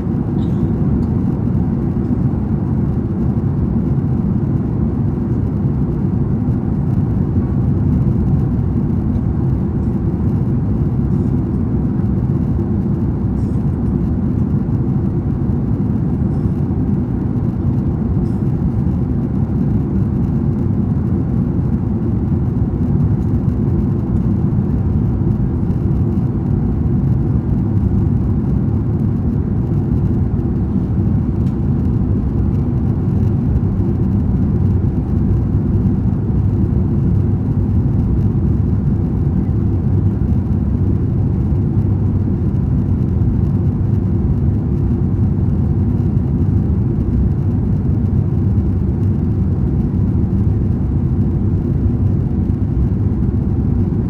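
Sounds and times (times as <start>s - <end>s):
jet engine rumble and airflow: 0.0s - 54.0s.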